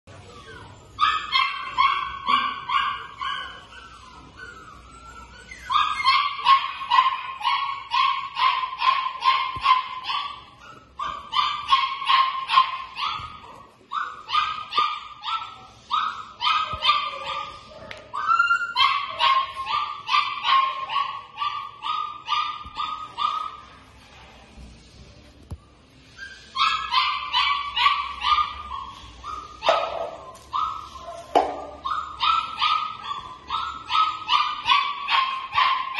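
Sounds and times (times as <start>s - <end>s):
puppy yapping: 0.1s - 23.6s, 26.2s - 35.9s.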